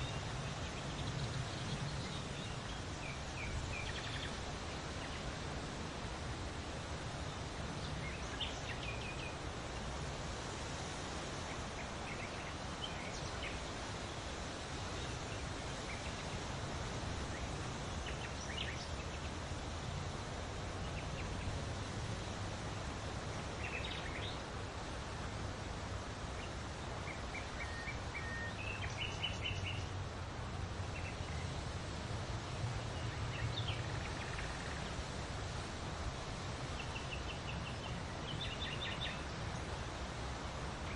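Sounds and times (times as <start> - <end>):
steady hiss: 0.0 - 40.9.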